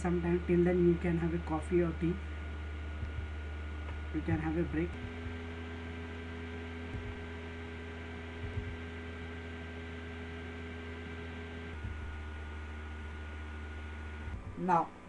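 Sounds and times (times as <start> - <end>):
electrical mains hum: 0.0 - 15.0
faint low thumps: 0.9 - 14.6.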